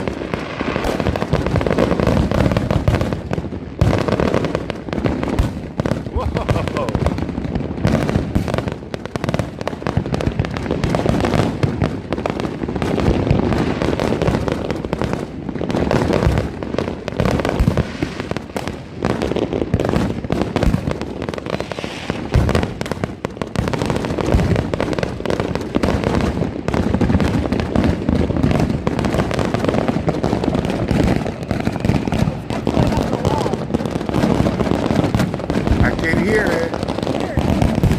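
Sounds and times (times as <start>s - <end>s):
fireworks and firecrackers banging: 0.0s - 37.9s.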